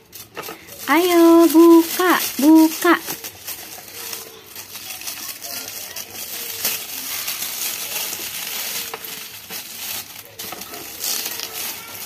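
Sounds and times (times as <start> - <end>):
wrapping paper crinkling and tearing: 0.0 - 12.0.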